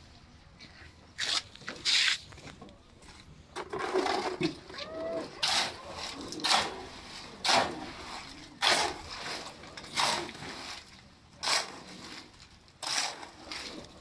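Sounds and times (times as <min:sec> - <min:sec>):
shovel scraping wet concrete: 0:01.2 - 0:02.2, 0:03.6 - 0:14.0.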